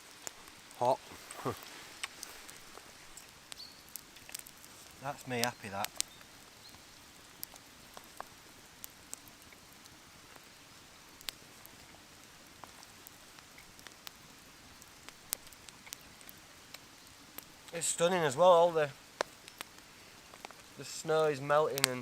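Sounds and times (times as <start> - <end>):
faint steady hiss: 0.0 - 22.0
water dripping from trees: 0.0 - 22.0.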